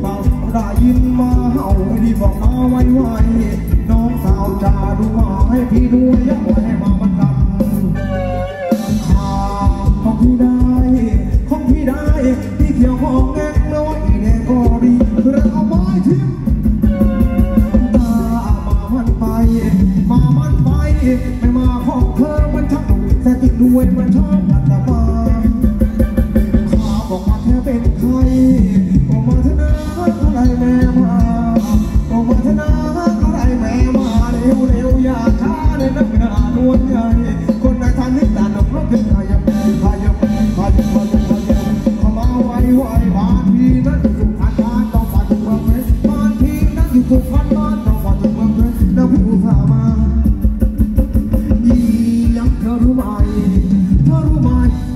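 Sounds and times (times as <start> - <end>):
live band dance music: 0.0 - 54.9
person singing: 0.0 - 54.9
steady drum beat: 0.0 - 54.9.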